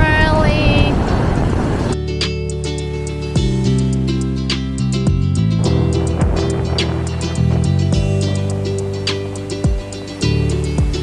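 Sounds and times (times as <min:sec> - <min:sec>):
background music with light beat: 0:01.9 - 0:11.0.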